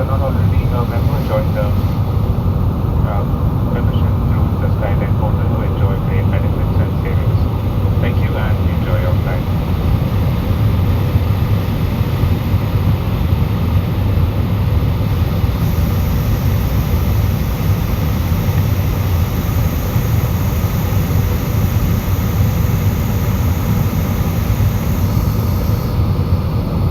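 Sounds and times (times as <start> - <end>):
jet engine cabin drone: 0.0 - 26.9.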